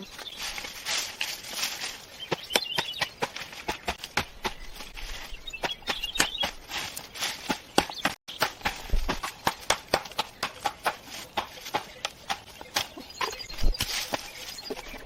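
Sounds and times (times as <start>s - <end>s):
bird chirps: 0.0s - 1.0s, 2.0s - 8.5s, 9.4s - 15.0s.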